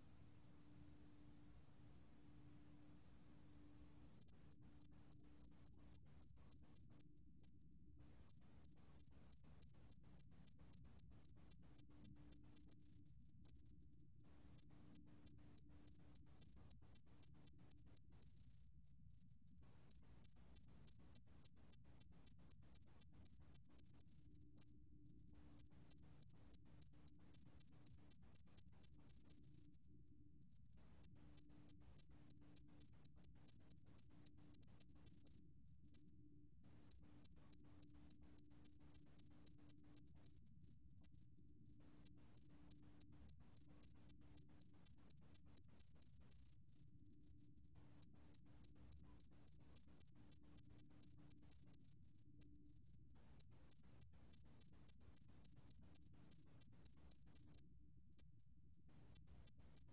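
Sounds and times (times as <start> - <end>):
cricket singing in pulses and trills: 4.2 - 59.9.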